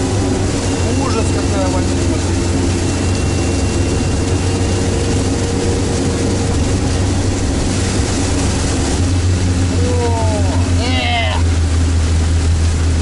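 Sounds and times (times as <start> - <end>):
diesel engine running under load: 0.0 - 13.0
water rushing: 0.0 - 13.0.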